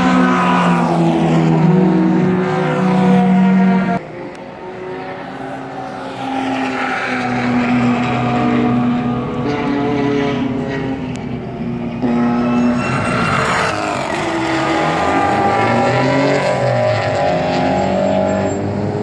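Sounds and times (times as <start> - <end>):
race car passing by: 0.0 - 11.3, 11.9 - 19.0
race car engines at high revs: 0.0 - 19.0.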